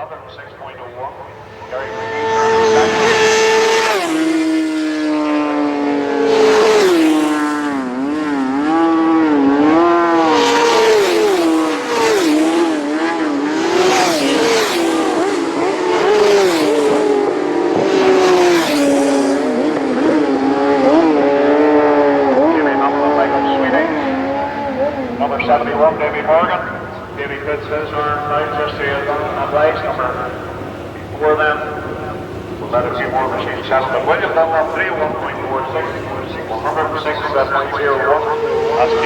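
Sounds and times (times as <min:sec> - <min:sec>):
racing motorcycle engines: 0:00.0 - 0:39.0.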